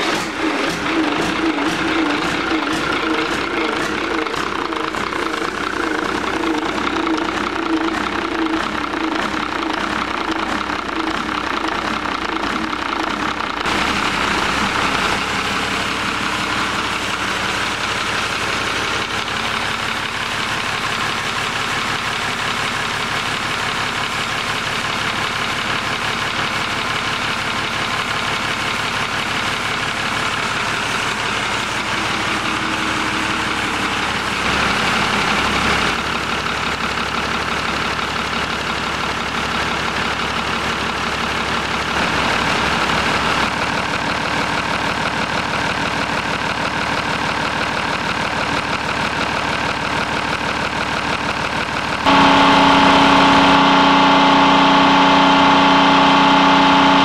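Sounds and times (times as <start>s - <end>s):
diesel marine engine running: 0.0s - 57.0s.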